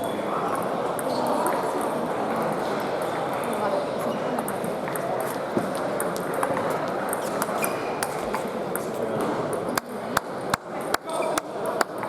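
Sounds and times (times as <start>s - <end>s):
murmur of large hall: 0.0s - 12.0s.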